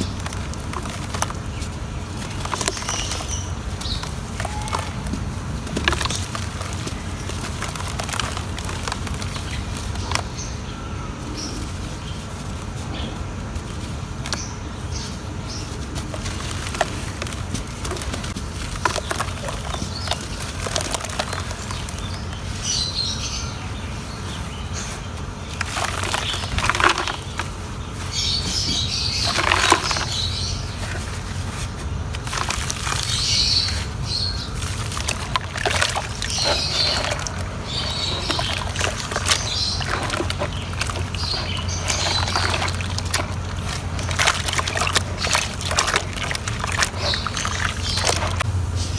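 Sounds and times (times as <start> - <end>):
wet cement crumbling and cracking: 0.0 - 10.6, 11.2 - 23.3, 24.8 - 48.5
steady low hum: 0.0 - 48.9.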